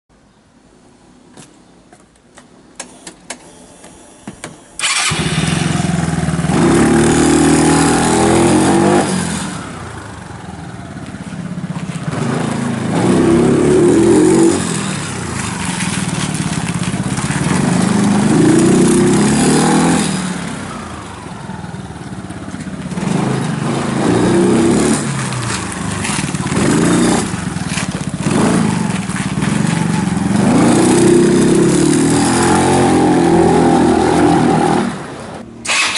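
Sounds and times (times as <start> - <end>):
scooter engine running: 4.7 - 35.9.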